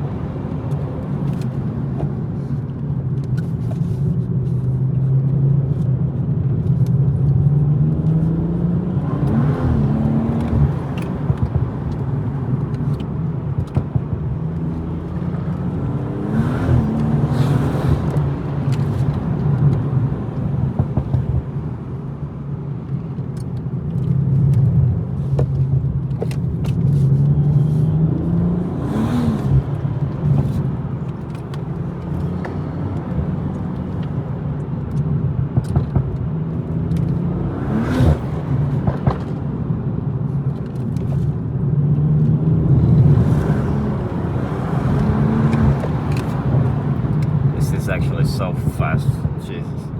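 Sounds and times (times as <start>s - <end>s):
car engine running: 5.6s - 49.9s.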